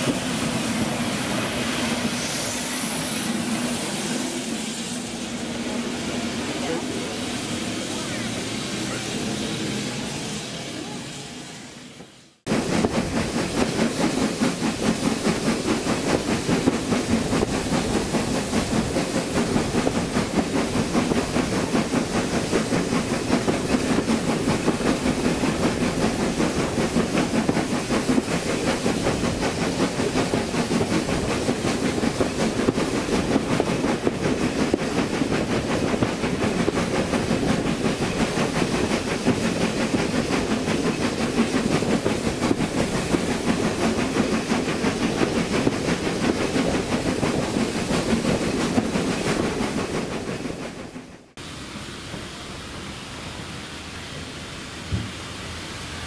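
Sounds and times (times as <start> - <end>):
steam locomotive chugging: 0.0 - 56.0.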